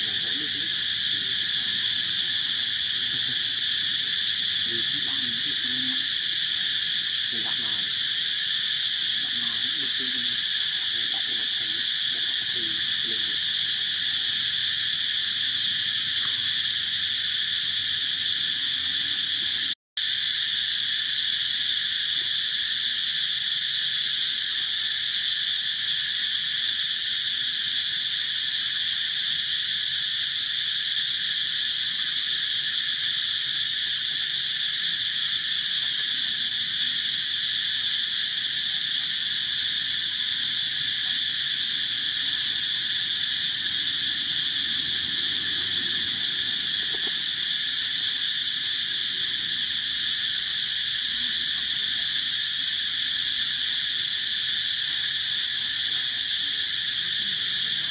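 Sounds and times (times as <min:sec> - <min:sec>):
insect chorus drone: 0:00.0 - 0:57.9.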